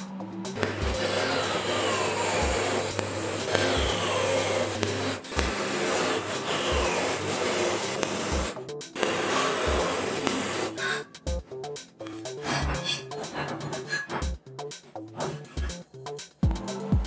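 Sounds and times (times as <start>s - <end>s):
band saw cutting steel: 0.5s - 11.2s, 12.0s - 14.4s, 15.2s - 15.8s.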